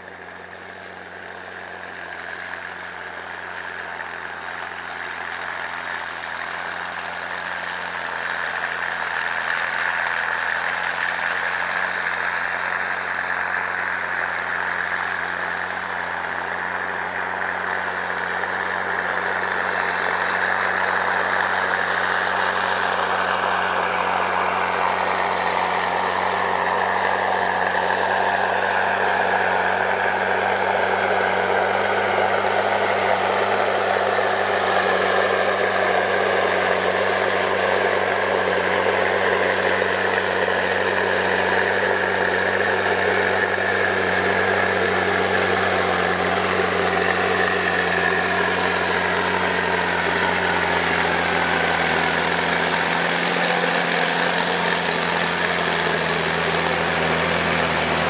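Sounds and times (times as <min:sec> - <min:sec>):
heavy diesel engines: 0:00.0 - 0:58.0.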